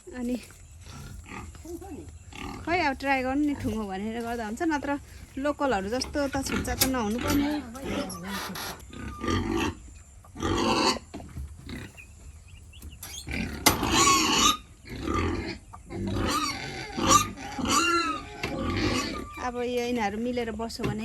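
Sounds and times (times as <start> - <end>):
pigs making rough calls: 0.7 - 4.1, 5.0 - 12.4, 13.0 - 19.6.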